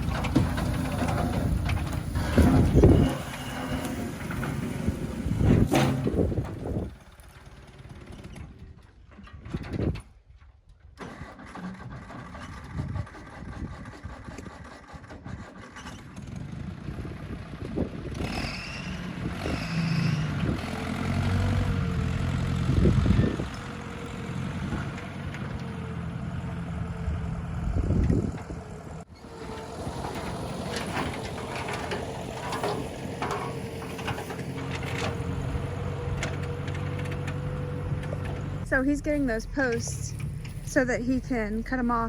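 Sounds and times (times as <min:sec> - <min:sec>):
vehicle engine running: 0:00.0 - 0:08.9, 0:16.0 - 0:42.0.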